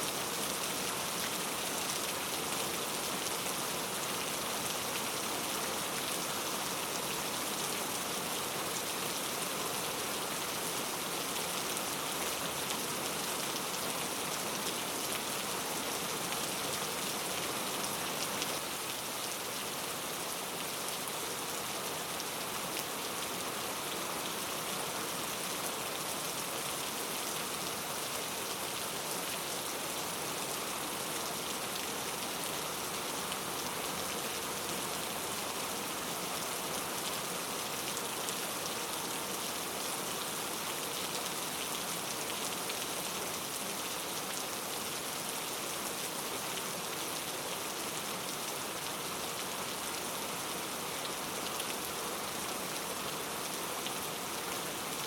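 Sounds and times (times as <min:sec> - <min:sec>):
rain on foliage: 0:00.0 - 0:55.0.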